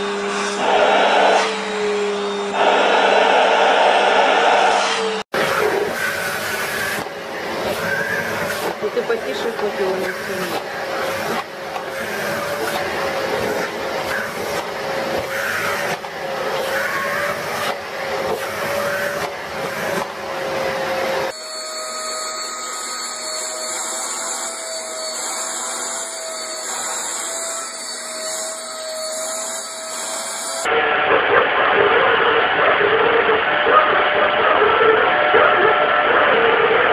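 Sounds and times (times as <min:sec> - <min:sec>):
vacuum cleaner motor whine: 0:00.0 - 0:36.9.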